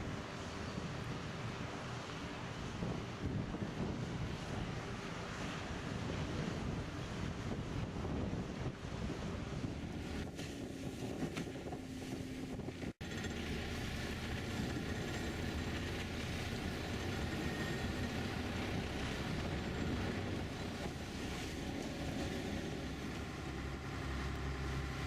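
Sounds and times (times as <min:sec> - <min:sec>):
boat engine and hull wash: 0:00.0 - 0:25.0
wind buffeting microphone: 0:00.0 - 0:25.0.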